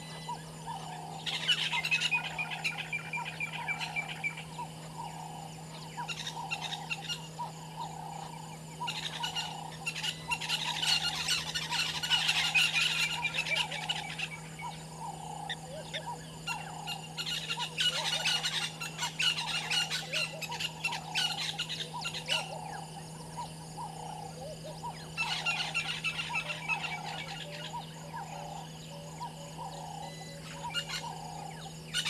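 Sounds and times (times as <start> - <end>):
high-pitched chirping and squealing calls: 0.0 - 32.0
steady low hum: 0.0 - 32.0.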